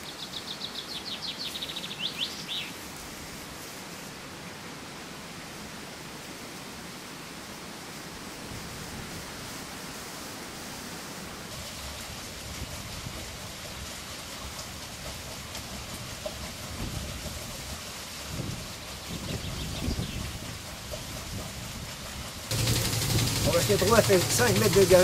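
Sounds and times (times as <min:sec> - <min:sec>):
water rushing through water wheel: 0:00.0 - 0:25.0.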